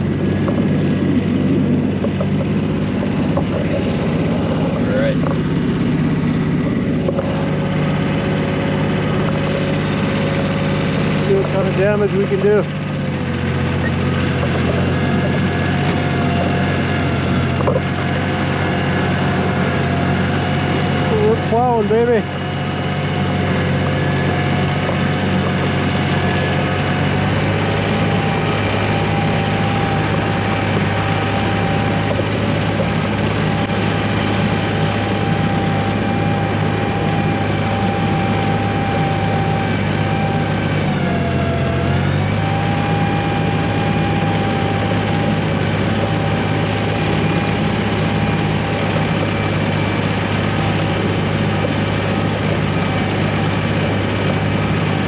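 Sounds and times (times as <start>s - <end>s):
tractor diesel engine under load: 0.0s - 55.0s
whine on engine note: 0.0s - 55.0s.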